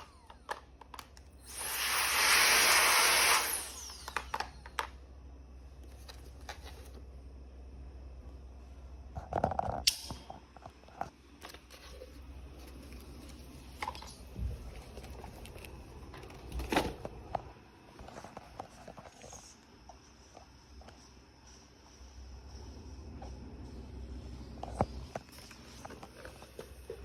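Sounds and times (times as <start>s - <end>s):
low steady hum: 4.2s - 27.0s.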